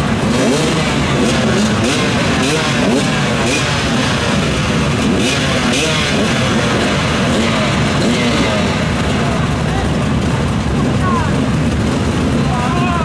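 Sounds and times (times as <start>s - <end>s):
motorcycle and quad engines revving: 0.0s - 13.0s.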